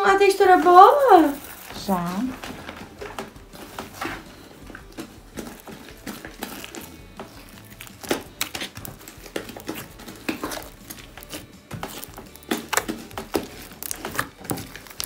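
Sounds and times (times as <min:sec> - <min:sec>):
slime squishing with wet pops: 0:02.4 - 0:15.0.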